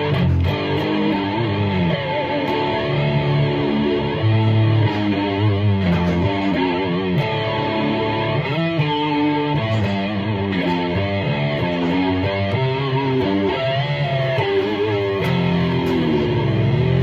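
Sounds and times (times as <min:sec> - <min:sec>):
electric guitar with flanger: 0:00.0 - 0:17.0.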